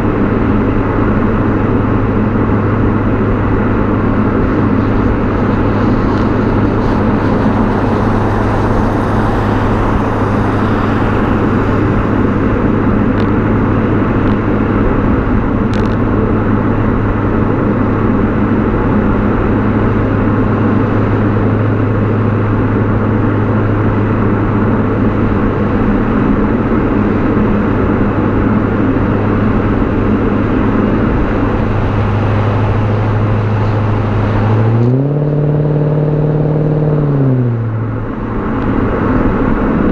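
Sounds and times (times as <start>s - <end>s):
car exhaust droning: 0.0s - 39.9s
road and wind noise: 0.0s - 39.9s.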